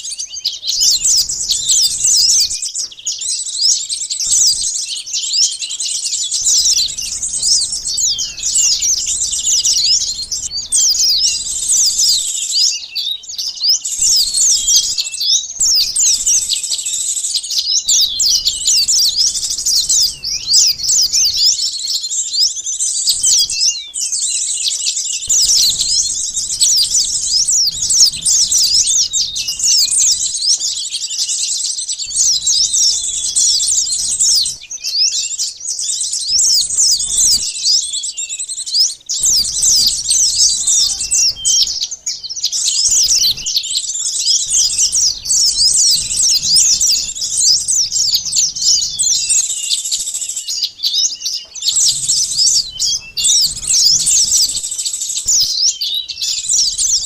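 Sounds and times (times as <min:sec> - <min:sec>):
small songbirds chattering: 0:00.0 - 0:57.0.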